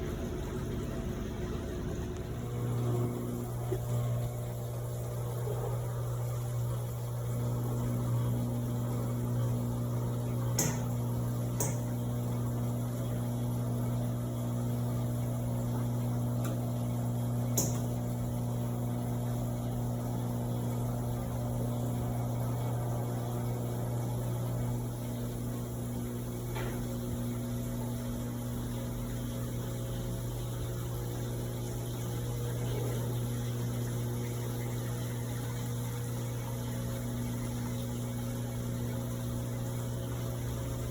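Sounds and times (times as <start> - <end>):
washing machine hum: 0.0 - 40.9.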